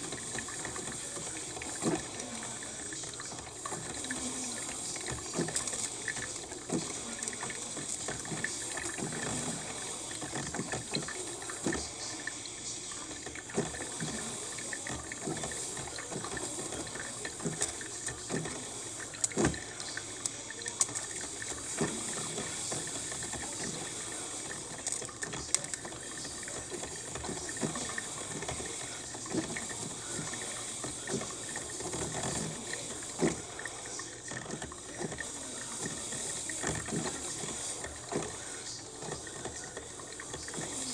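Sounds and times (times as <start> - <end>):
coffee maker hissing and sputtering: 0.0 - 40.9.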